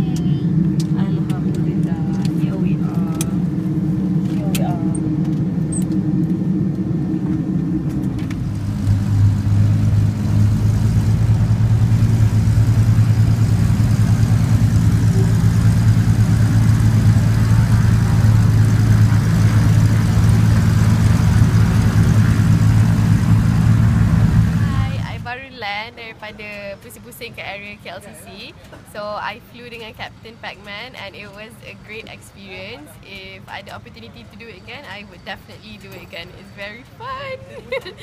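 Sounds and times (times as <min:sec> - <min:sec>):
aircraft engine humming: 0:00.0 - 0:38.0.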